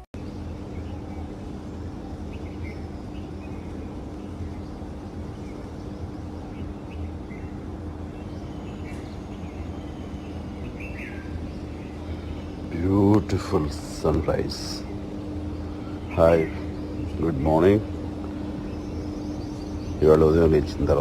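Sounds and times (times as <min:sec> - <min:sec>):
faint bird chirps: 0:00.0 - 0:21.0
steady low hum: 0:00.0 - 0:21.0.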